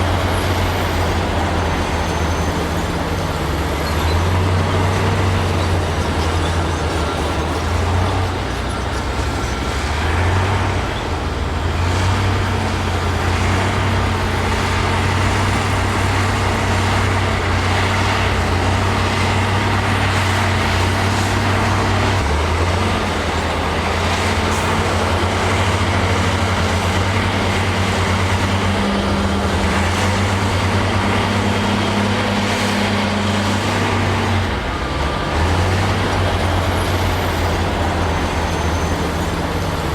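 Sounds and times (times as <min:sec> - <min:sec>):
heavy diesel machine engine: 0:00.0 - 0:39.9.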